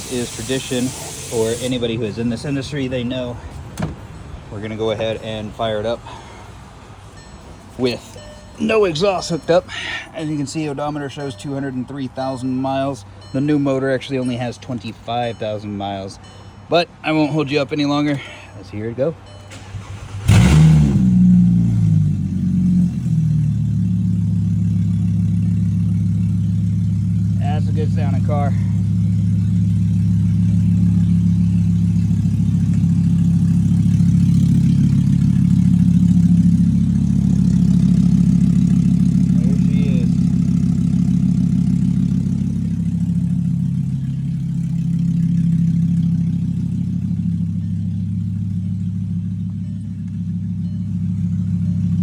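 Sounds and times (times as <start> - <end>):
car engine idling without exhaust: 0.0 - 52.0.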